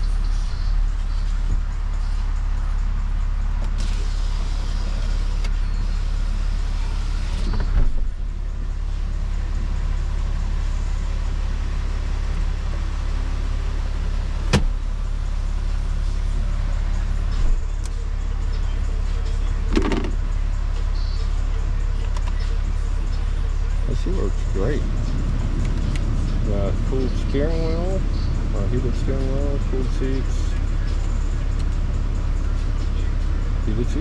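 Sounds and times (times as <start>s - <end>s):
diesel pickup engine idling: 0.0s - 34.0s.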